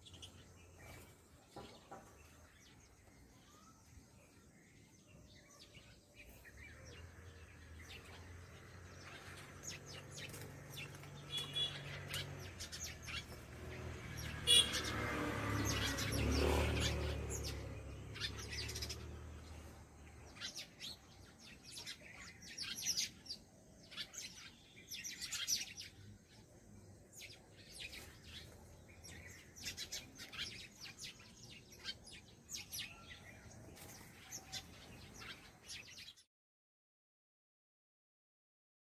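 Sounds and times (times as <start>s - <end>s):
small birds chirping: 0.0s - 36.3s.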